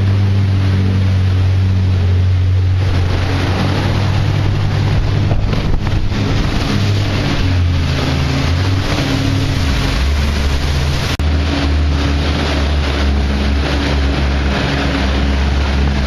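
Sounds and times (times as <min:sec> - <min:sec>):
engine droning: 0:00.0 - 0:16.0
water spray rushing: 0:00.0 - 0:16.0.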